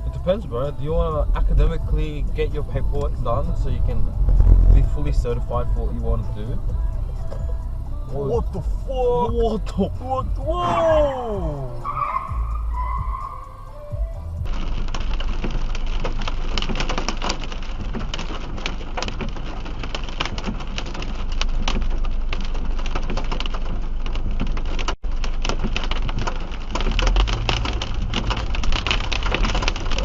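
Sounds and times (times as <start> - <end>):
car rumbling on road: 0.0 - 30.0
heavy rain on a car: 0.0 - 30.0.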